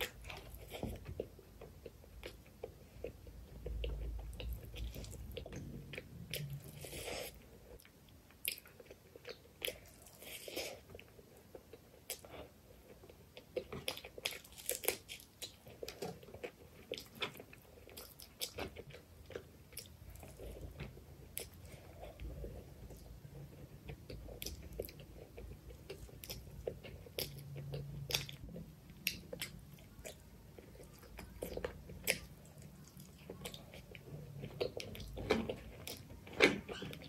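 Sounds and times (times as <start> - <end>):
close chewing with wet smacks: 0.0 - 37.0.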